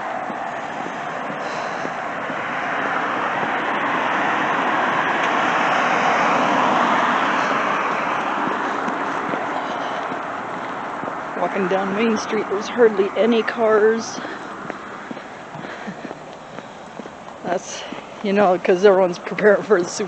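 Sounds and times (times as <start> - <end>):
car passing tyre noise: 0.0 - 20.0.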